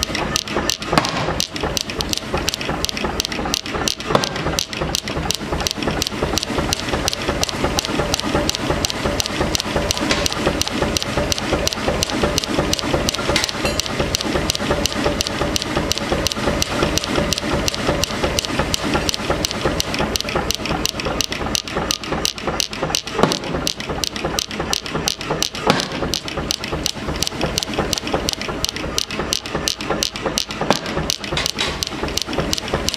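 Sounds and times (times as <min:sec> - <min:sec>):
power hammer pounding steel: 0:00.0 - 0:32.9
steady hum: 0:00.0 - 0:32.9.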